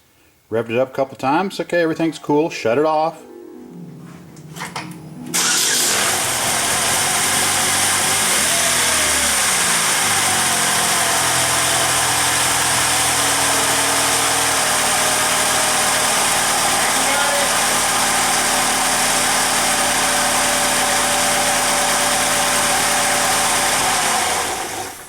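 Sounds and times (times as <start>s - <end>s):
car engine starting and idling: 4.6s - 25.0s.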